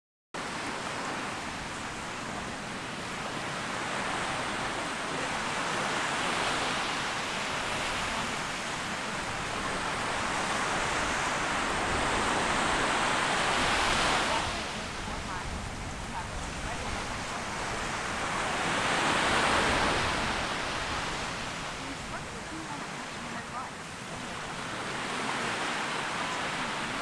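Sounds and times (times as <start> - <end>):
waves washing onto sand: 0.4 - 27.0.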